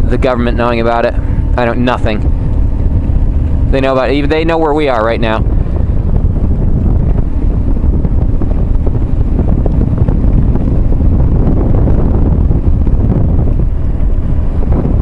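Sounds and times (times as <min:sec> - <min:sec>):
road noise: 0:00.0 - 0:15.0
wind rush on microphone: 0:00.0 - 0:15.0.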